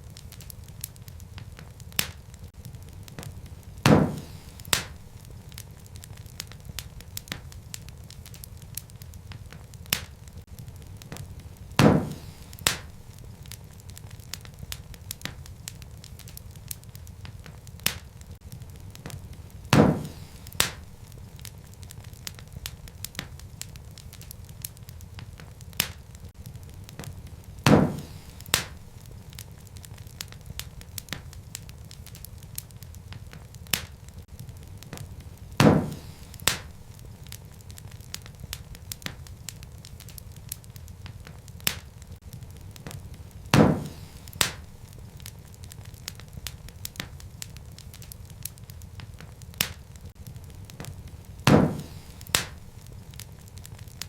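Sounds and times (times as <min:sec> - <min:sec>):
loud fire pops: 0:00.0 - 0:54.0
wood fire crackling: 0:00.0 - 0:54.0.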